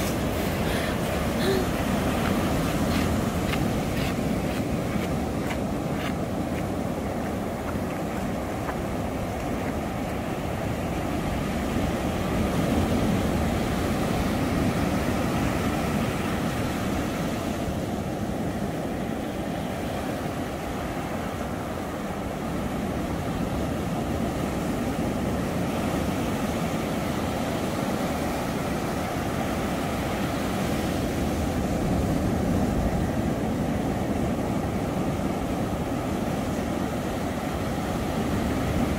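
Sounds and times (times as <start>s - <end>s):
waves breaking: 0.0s - 38.9s.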